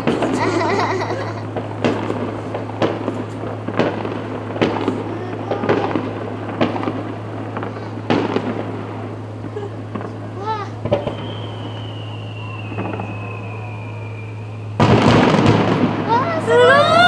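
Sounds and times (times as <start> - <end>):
fireworks bursting: 0.0 - 17.0
low hum: 0.0 - 17.0.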